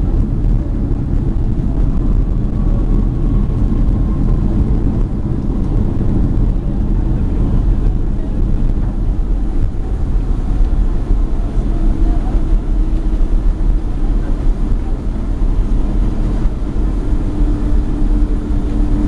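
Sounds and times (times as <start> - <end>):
airplane cabin engine rumble: 0.0 - 19.0
faint engine whine: 0.0 - 19.0.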